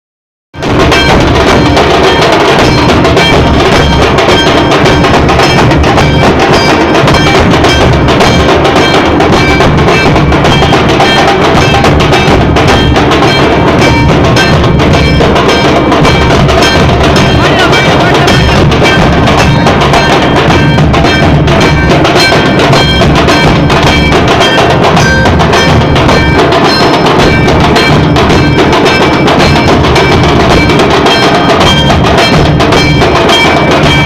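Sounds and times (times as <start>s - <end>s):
loud music with dense drumming: 0.6s - 34.0s.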